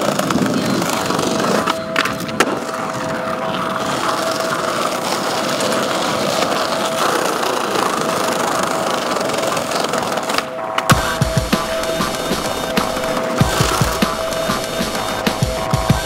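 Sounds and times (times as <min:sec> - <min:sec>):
skateboard clacks: 0:00.0 - 0:16.0
skateboard wheels rolling on tiles: 0:00.0 - 0:16.0.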